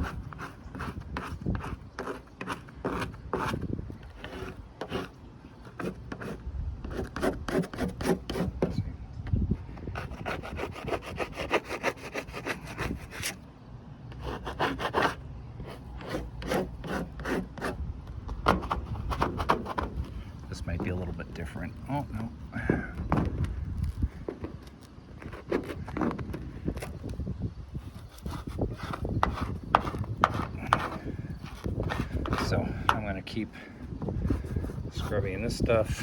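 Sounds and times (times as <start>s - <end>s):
hand scraper scraping metal roof: 0.0s - 8.8s, 9.8s - 13.4s, 14.2s - 21.1s, 24.2s - 26.9s, 27.8s - 36.0s.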